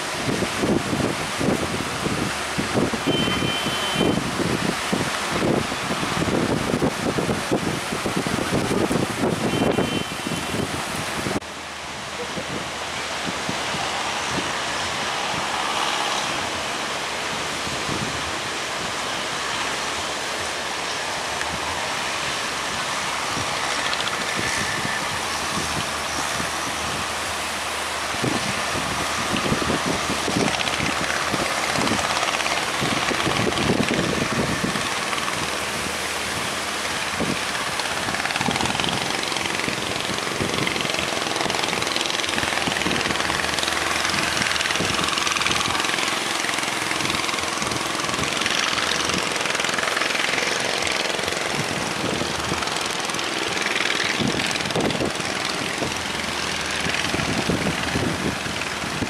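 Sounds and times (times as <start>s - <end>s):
boat engine running: 0.0s - 59.0s
waves: 0.0s - 59.0s
wind buffeting microphone: 0.0s - 59.0s.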